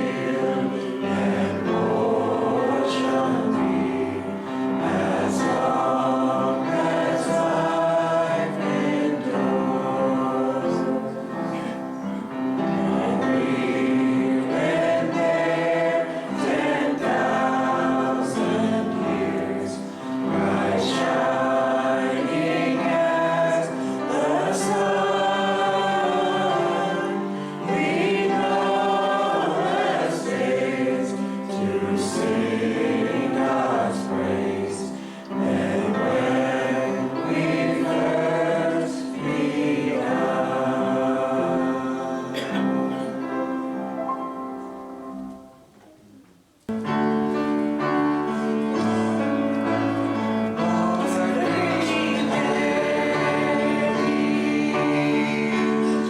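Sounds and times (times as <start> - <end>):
group singing a worship song: 0.0 - 43.7, 48.2 - 56.0.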